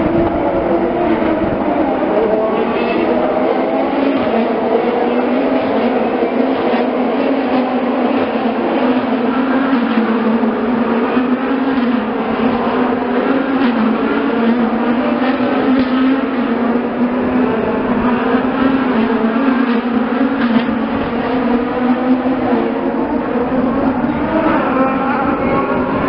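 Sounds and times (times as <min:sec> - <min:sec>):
race cars droning: 0:00.0 - 0:26.0.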